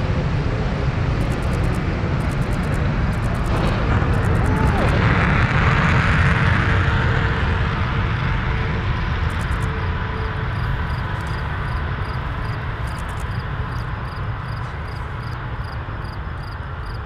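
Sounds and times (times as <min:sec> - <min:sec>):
deep jet engine roar: 0:00.0 - 0:17.0.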